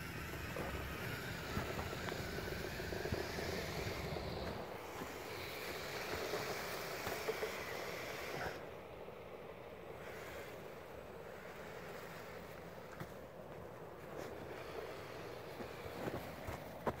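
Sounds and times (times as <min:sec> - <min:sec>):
plough pushing through snow: 0:00.0 - 0:08.7, 0:09.9 - 0:17.0
small electric motor and gears whining: 0:00.0 - 0:13.4, 0:14.0 - 0:17.0.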